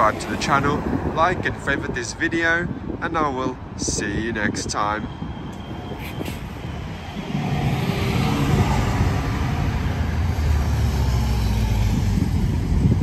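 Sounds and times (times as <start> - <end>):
bus engine low rumble: 0.0 - 13.0.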